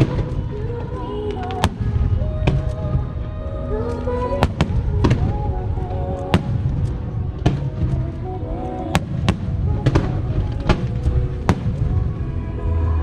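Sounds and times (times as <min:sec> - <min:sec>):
fireworks bangs: 0:00.0 - 0:13.0
low rumble: 0:00.0 - 0:13.0
music playing: 0:00.0 - 0:13.0.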